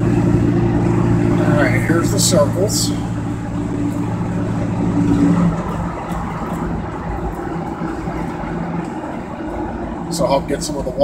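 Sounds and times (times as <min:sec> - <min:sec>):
pickup truck engine running: 0:00.0 - 0:11.0
road noise: 0:00.0 - 0:11.0.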